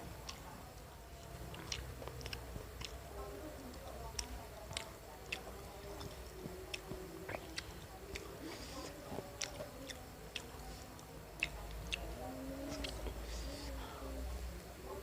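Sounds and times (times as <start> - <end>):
chewing fried snacks: 0.0 - 15.0.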